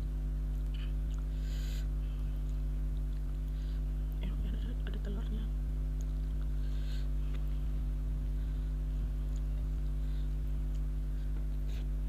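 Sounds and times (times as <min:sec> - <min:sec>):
steady low hum of tones: 0:00.0 - 0:12.0.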